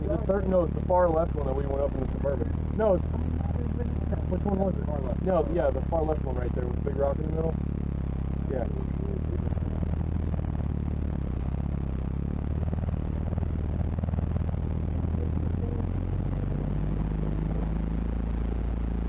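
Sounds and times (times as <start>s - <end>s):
truck engine running at low speed: 0.0s - 19.0s.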